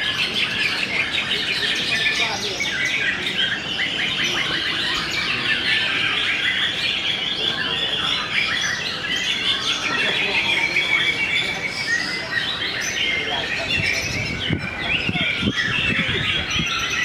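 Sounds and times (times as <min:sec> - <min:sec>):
many songbirds chirping and whistling: 0:00.0 - 0:17.0.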